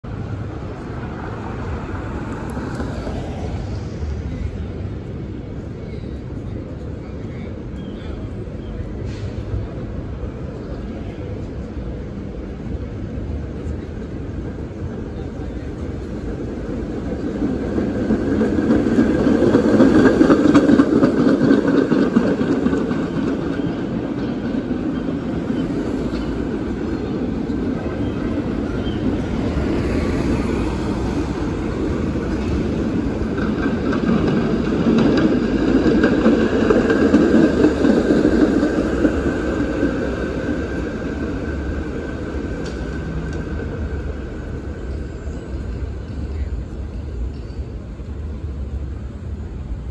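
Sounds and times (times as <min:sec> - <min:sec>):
streetcars passing on rails: 0:00.0 - 0:49.9.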